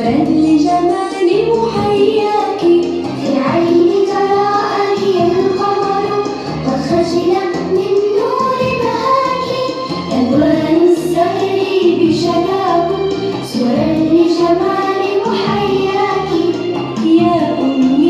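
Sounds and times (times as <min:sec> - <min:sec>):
child singing: 0:00.0 - 0:18.0
instrumental backing music: 0:00.0 - 0:18.0.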